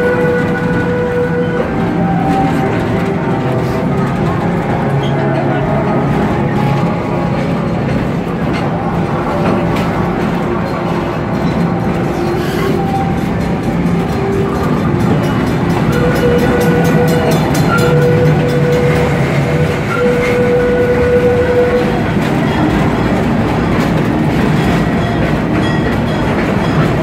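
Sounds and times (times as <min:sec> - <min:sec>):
train wheels rumbling and rattling: 0:00.0 - 0:27.0.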